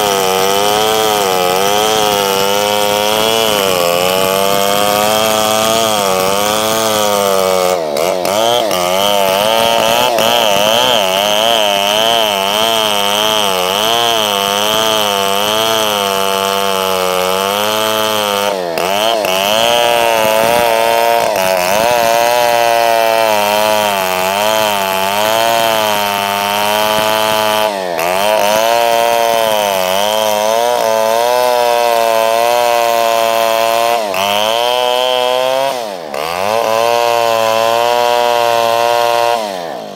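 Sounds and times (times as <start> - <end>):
chainsaw cutting tree trunk: 0.0 - 39.9.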